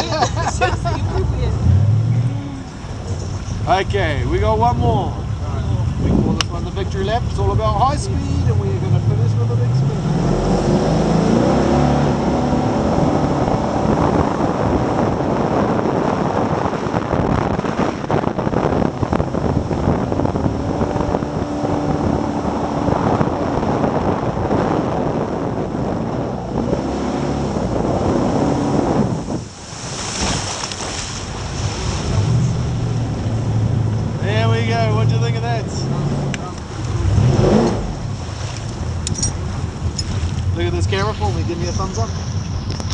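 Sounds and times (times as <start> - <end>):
boat engine at high speed: 0.0 - 42.9
rushing water: 0.0 - 42.9
wind on microphone: 0.0 - 42.9.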